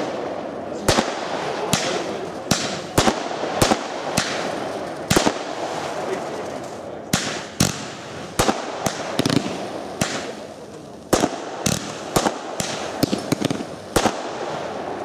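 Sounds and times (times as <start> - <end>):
fireworks shells bursting: 0.8 - 15.0.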